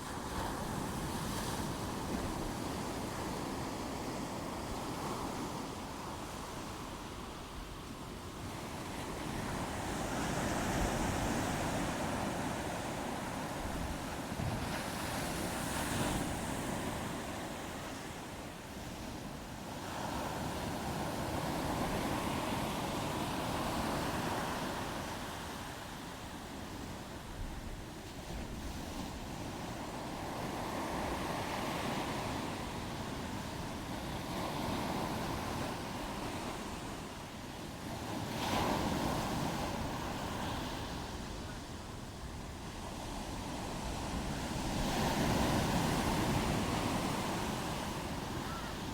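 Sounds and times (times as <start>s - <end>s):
wind: 0.0s - 48.9s.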